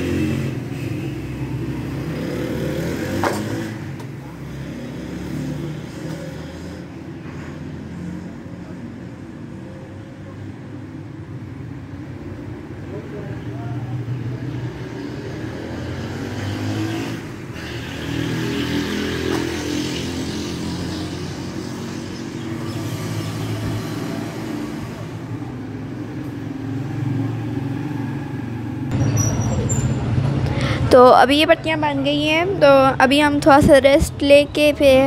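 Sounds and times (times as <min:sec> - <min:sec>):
vehicle engine droning: 0:00.0 - 0:35.0.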